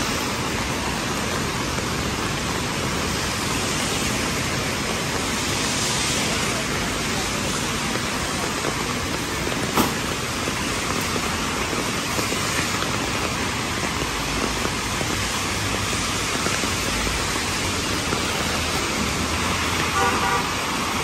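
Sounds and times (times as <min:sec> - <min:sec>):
rain on wet street: 0:00.0 - 0:21.0.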